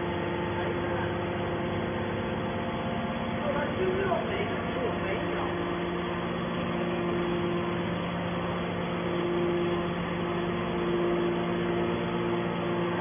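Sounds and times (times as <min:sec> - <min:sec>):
hydraulic motor and pump humming: 0:00.0 - 0:13.0.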